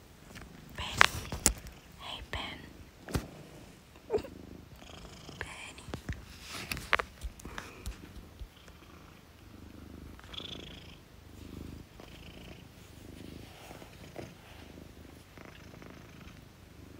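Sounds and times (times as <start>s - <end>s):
cat purring: 0.0s - 16.9s.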